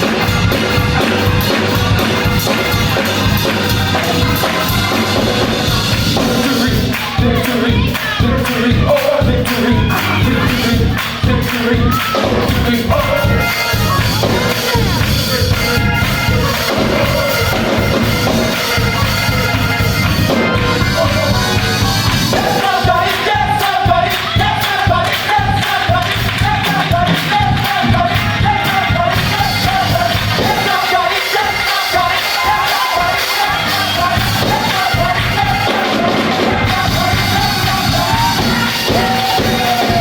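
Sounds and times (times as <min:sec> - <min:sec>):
band with steady beat: 0:00.0 - 0:40.0
gospel choir singing: 0:00.0 - 0:40.0.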